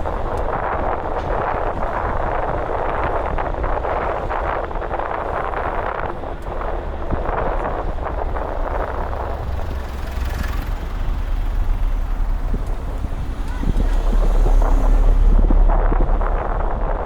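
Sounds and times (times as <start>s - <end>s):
street traffic rumble: 0.0s - 17.0s
wind on microphone: 0.0s - 17.0s.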